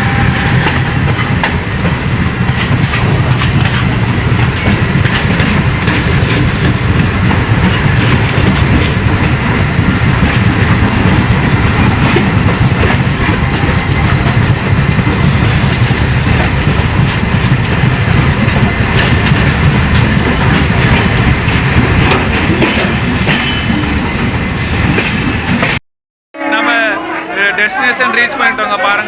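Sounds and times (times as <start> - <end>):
clickety-clack of rail joints: 0.0 - 25.8
train wheels rumbling on rails: 0.0 - 25.8.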